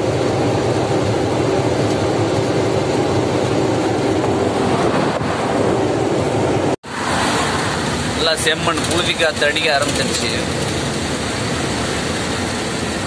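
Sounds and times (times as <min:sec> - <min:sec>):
lorry engine and road noise: 0:00.0 - 0:13.0.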